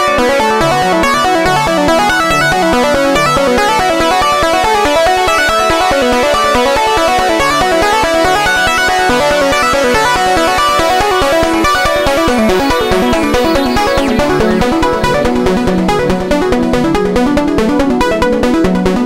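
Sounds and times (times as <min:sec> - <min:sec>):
modular synthesizer sequence: 0:00.0 - 0:19.0
low pulse: 0:00.2 - 0:18.2.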